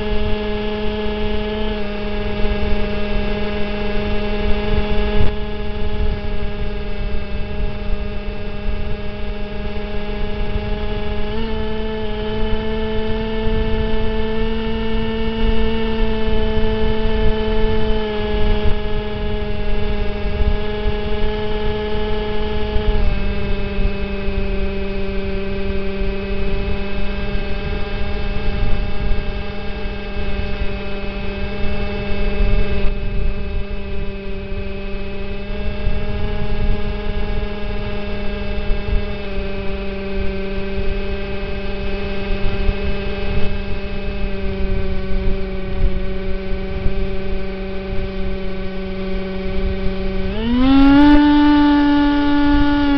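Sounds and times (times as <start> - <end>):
model plane motor humming: 0.0 - 52.9.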